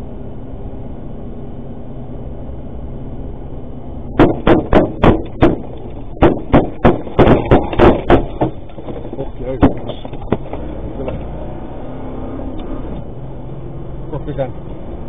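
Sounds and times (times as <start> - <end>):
road noise inside vehicle: 0.0 - 15.0.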